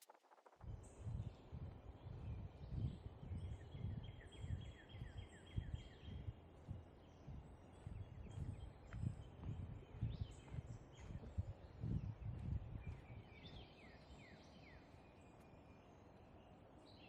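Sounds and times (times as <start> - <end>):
birds chirping: 0.7 - 17.0.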